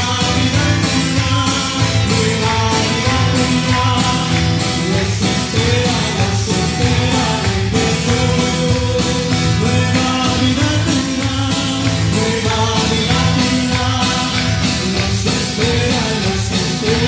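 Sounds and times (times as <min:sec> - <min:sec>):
guitar: 0:00.0 - 0:17.0
person singing: 0:00.0 - 0:17.0
praise band music: 0:00.0 - 0:17.0.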